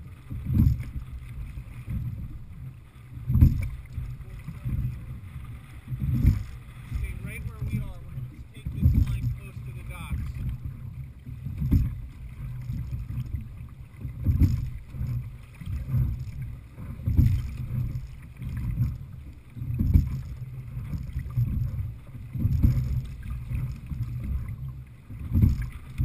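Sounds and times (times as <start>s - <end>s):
rowing stroke knock: 0.0s - 26.0s
water rumbling on boat hull: 0.0s - 26.0s.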